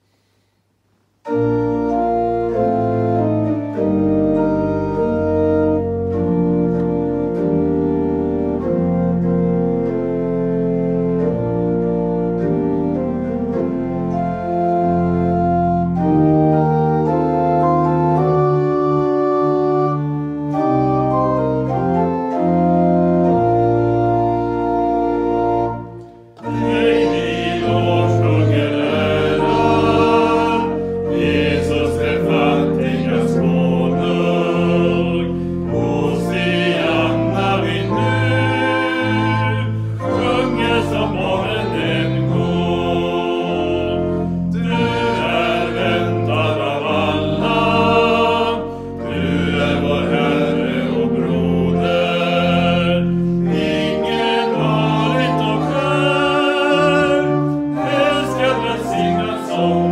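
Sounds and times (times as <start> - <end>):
pipe organ playing a hymn: 1.2 - 59.9
voices singing a hymn: 11.2 - 59.9.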